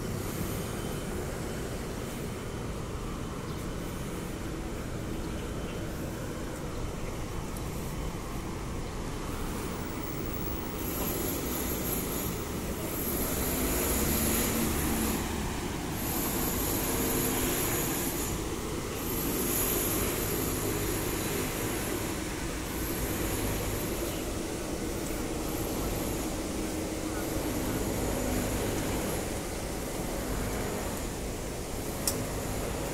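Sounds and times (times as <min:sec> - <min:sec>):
high-pitched whine: 0:00.0 - 0:32.9
low traffic rumble: 0:00.0 - 0:32.9.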